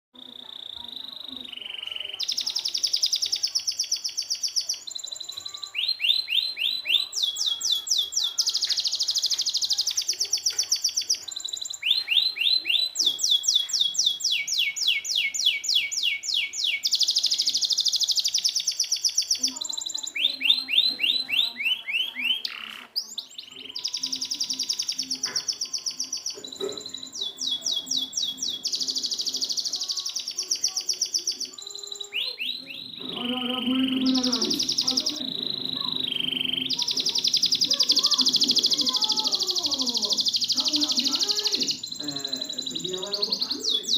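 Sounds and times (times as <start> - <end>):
canary singing trills: 0.1 - 43.9.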